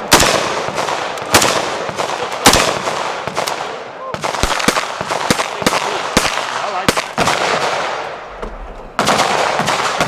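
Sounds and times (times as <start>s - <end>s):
distant gunshots: 0.0s - 10.0s
loud gunshots: 0.0s - 10.0s.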